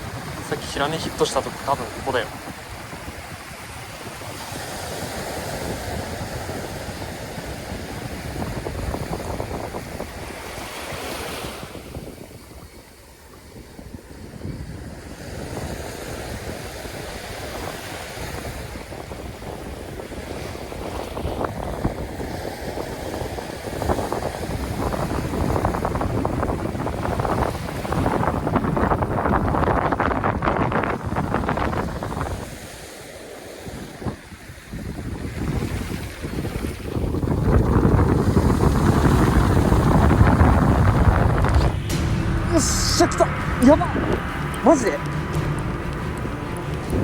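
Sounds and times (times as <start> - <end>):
waves breaking: 0.0 - 47.0
wind rumbling on microphone: 0.0 - 47.0.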